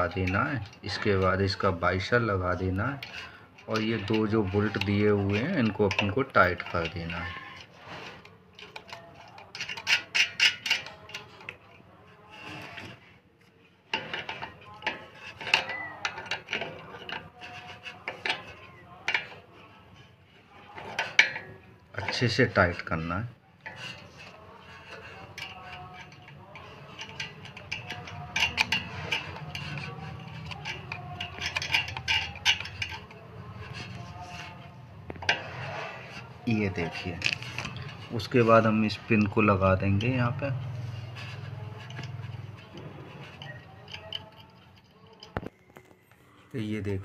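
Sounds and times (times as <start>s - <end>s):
metal bolts clicking and scraping: 0.0s - 45.9s.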